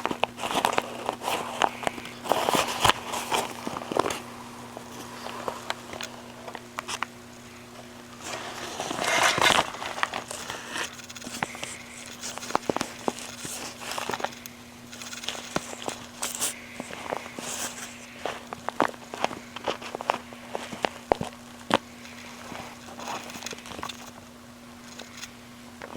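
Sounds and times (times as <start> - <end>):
bag crinkling: 0.0 - 25.9
faint steady hum: 0.0 - 25.9.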